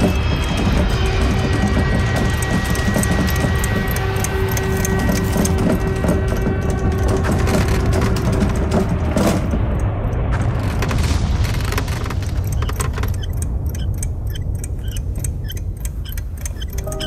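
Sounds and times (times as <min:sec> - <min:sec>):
rapid regular ticking: 0:00.0 - 0:17.0.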